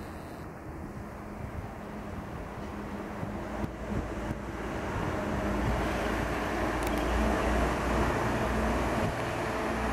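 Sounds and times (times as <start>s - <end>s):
bus passing: 0.0s - 9.9s.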